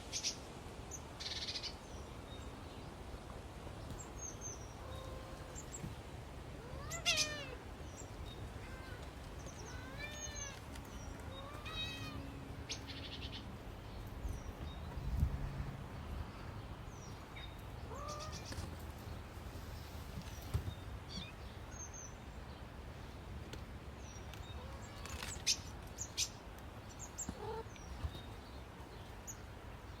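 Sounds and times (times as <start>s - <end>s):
birds chirping: 3.8s - 23.2s, 24.0s - 30.0s.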